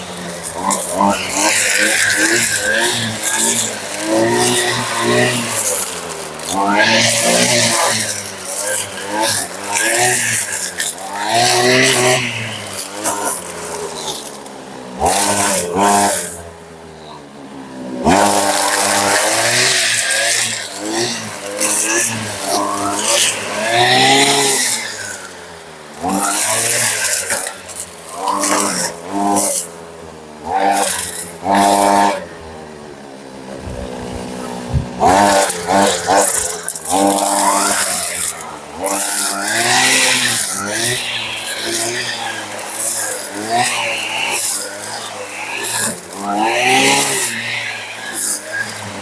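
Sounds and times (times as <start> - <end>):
spinning head cutting grass: 0.0 - 16.6, 17.8 - 49.0
brushcutter engine revving: 0.0 - 49.0.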